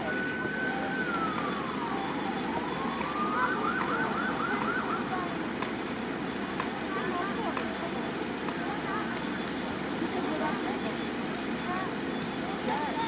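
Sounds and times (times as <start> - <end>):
emergency vehicle siren: 0.0 - 13.0
steady background noise: 0.0 - 13.0.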